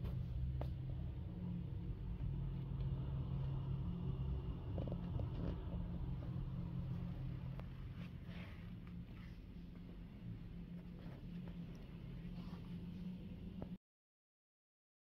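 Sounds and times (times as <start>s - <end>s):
low steady rumble: 0.0s - 13.8s.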